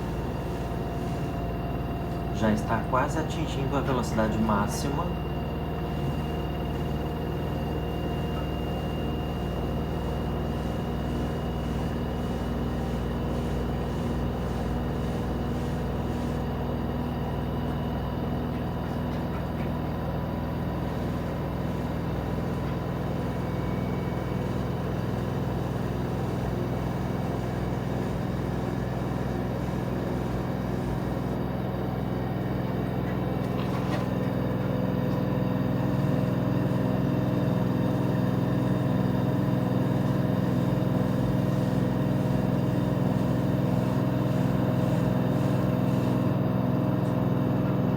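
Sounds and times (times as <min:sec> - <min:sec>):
washing machine spinning: 0:00.0 - 0:47.9.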